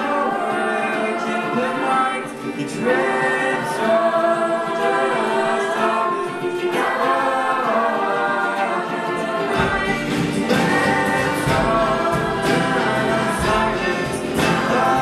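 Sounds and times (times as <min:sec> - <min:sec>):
choir singing: 0:00.0 - 0:15.0
lead singers: 0:00.0 - 0:15.0.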